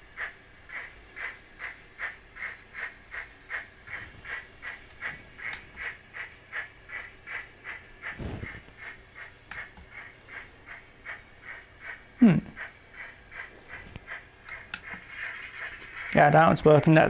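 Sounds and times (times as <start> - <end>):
steam locomotive chuffs from speaker: 0.0 - 17.0.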